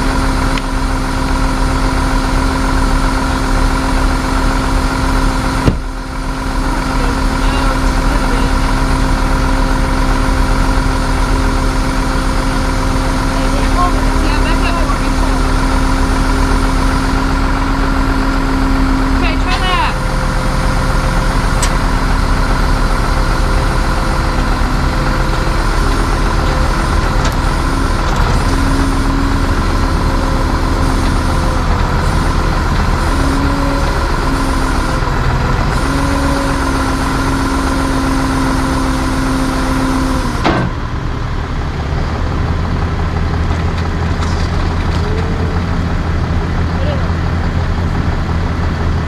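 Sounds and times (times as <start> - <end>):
hydraulic winch whine: 0.0 - 48.8
truck engine running: 0.0 - 49.0.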